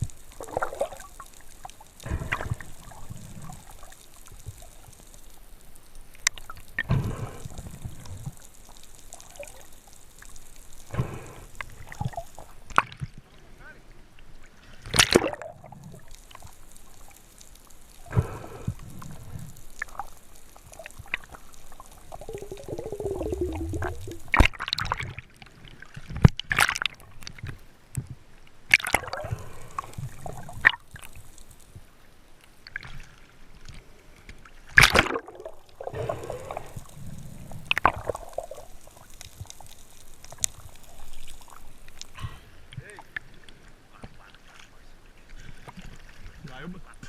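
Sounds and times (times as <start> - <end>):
water sloshing and splashing: 0.0 - 13.3, 14.2 - 27.6, 28.7 - 31.8, 32.6 - 46.7
water trickling and dripping: 0.0 - 13.4, 14.1 - 46.8.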